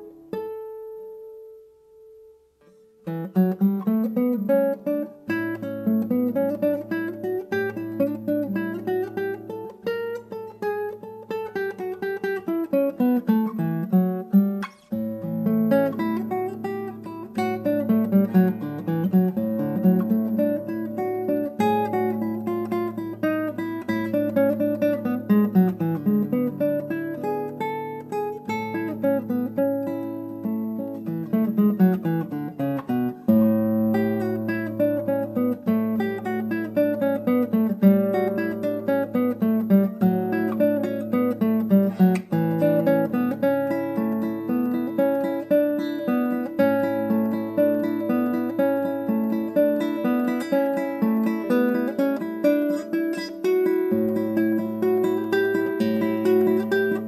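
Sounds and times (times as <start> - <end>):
acoustic guitar picking: 2.6 - 57.0.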